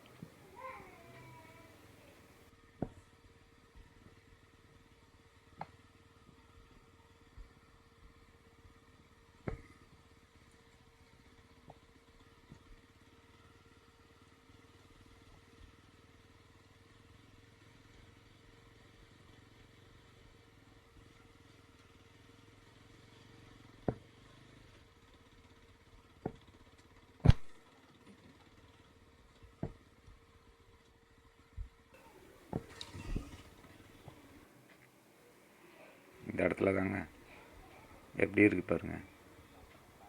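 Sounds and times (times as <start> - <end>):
motorcycle running at low speed: 0.0 - 40.0.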